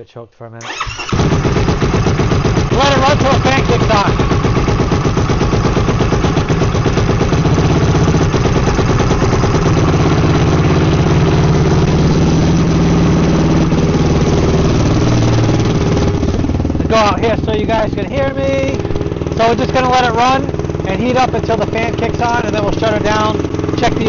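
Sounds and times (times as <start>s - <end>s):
engine idling: 0.6s - 24.0s.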